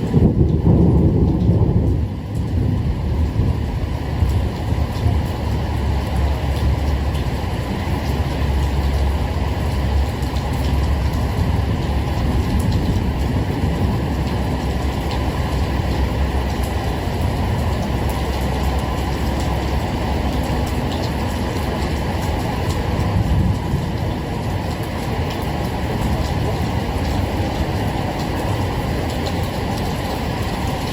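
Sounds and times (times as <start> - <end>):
steady rain: 0.0 - 30.9
thunder rumbling: 0.0 - 30.9.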